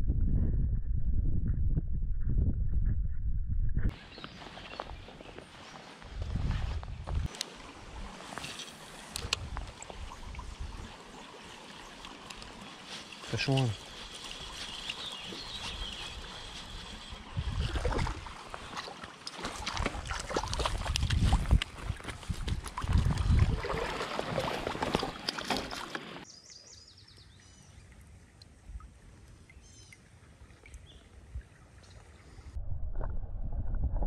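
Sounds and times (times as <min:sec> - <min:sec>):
water splashing and sloshing: 0:03.9 - 0:26.3, 0:27.0 - 0:34.0.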